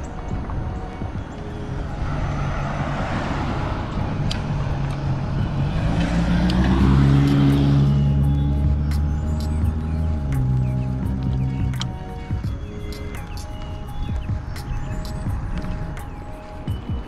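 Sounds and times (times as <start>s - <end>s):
car passing: 0.0s - 17.0s.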